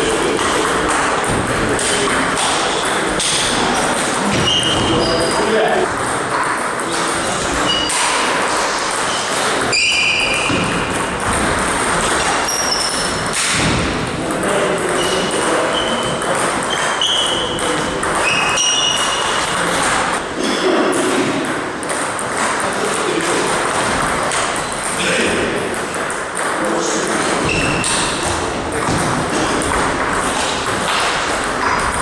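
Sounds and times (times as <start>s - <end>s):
table tennis balls bouncing: 0.0s - 32.0s.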